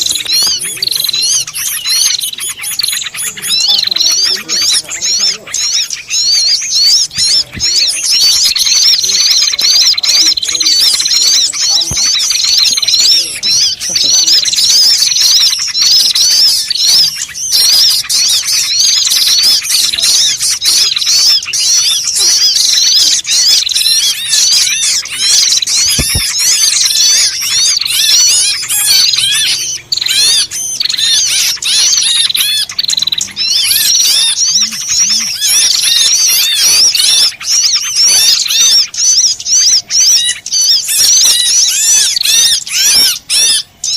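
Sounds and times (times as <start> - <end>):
many small birds chattering: 0.0 - 43.9.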